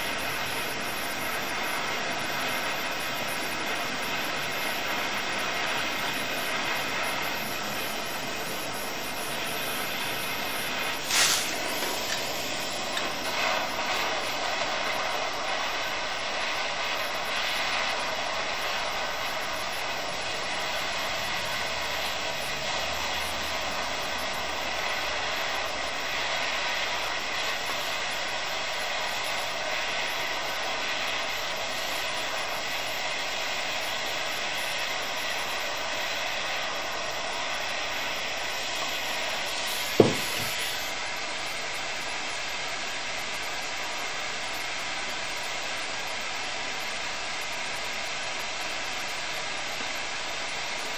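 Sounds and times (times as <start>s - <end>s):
gas torch hissing: 0.0s - 50.9s
hot steel sizzling in fluid: 0.0s - 50.9s.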